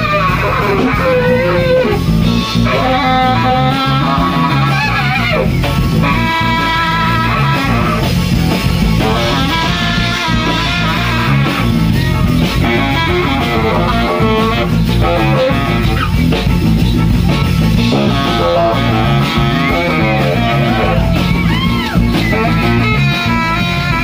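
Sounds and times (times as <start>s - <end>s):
afro-jazz band playing: 0.0s - 24.0s
baritone saxophones: 0.0s - 24.0s
electric guitar: 0.0s - 24.0s
trombone: 0.0s - 24.0s.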